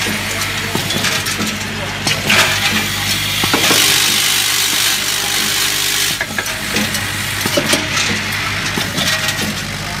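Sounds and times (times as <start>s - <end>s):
steady electric hum: 0.0s - 10.0s.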